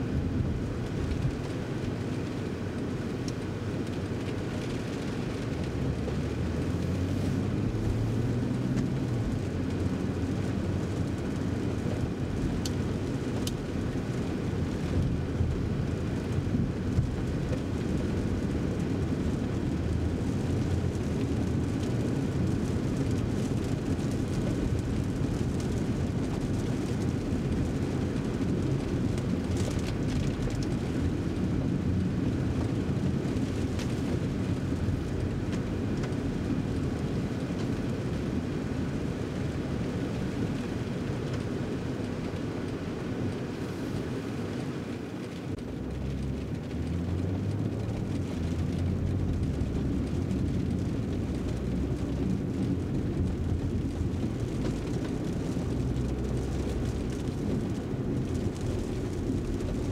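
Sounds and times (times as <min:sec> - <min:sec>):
car engine low rumble: 0:00.0 - 0:59.9
tyre noise on wet road: 0:00.0 - 0:59.9.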